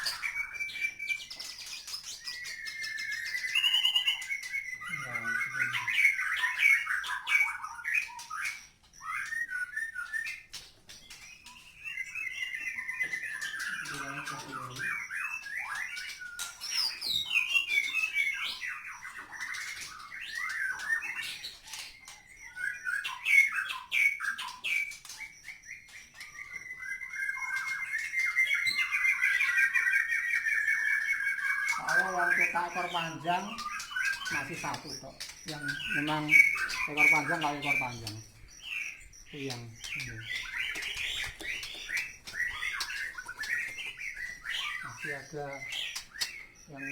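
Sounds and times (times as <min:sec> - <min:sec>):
birds chirping and chattering: 0:00.0 - 0:46.9.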